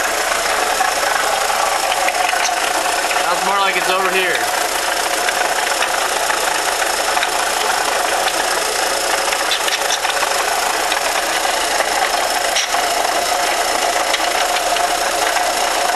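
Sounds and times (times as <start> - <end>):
car engine running: 0.0 - 15.9
light engine knock: 0.0 - 15.9.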